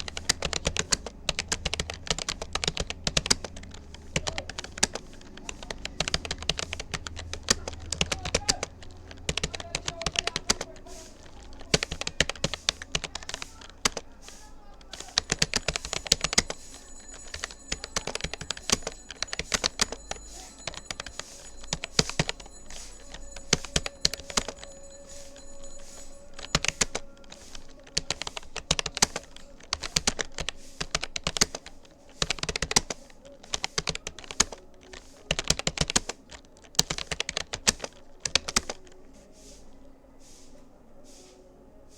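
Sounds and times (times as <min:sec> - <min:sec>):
keyboard typing: 0:00.0 - 0:39.7.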